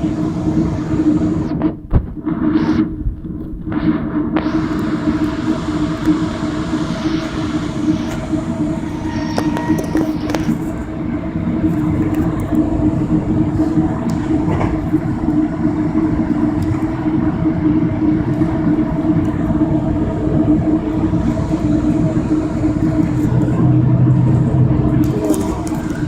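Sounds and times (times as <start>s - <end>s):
train car rumble and hum: 0.0s - 26.0s.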